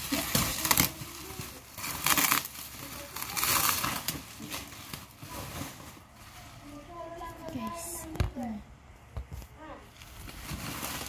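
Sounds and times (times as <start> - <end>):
bubble wrap crinkling: 0.0 - 8.4, 9.2 - 11.0.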